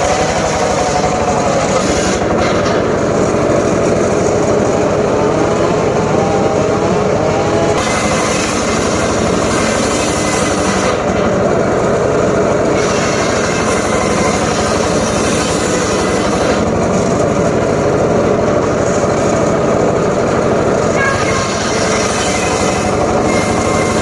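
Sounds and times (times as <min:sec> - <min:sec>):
engine-driven circular saw running: 0:00.0 - 0:24.0.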